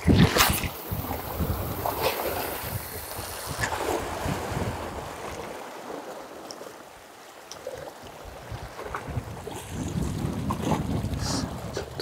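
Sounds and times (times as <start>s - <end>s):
wind buffeting microphone: 0.0s - 5.6s, 7.6s - 12.0s
surf washing against rocks: 0.0s - 12.0s.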